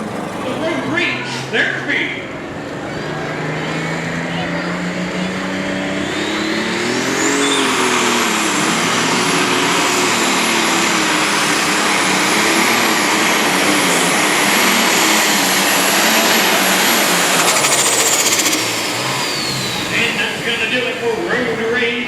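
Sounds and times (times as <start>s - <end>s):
tractor diesel engine at full throttle: 0.0s - 22.0s.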